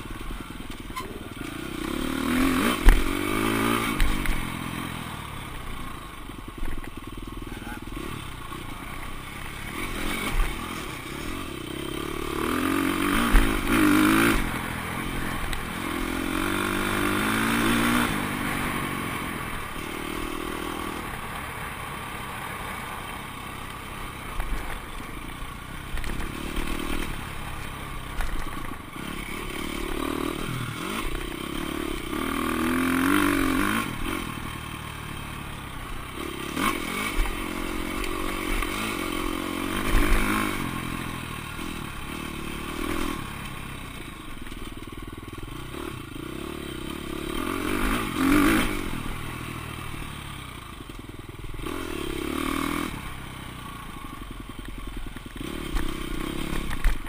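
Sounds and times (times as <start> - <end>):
dirt bike engine revving: 0.0 - 5.8, 7.3 - 21.4, 25.8 - 44.4, 45.4 - 50.2, 51.5 - 53.9, 55.2 - 57.0.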